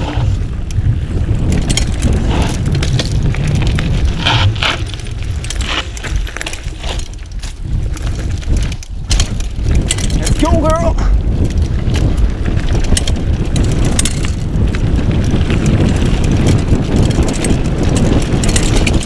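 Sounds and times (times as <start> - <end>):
bike rattling over bumps: 0.0 - 19.0
bike tyres crunching on gravel: 0.0 - 19.0
low rumble: 0.0 - 19.0.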